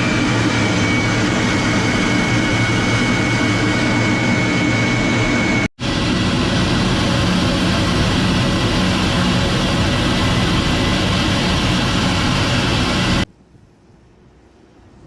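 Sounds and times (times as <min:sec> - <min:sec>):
jet engine whine and rumble: 0:00.0 - 0:13.3.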